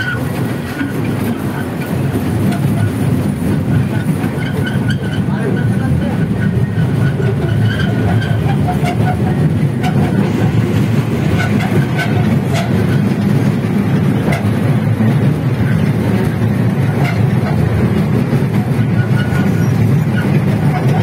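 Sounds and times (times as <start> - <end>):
train clacks and rattles: 0.0 - 21.0.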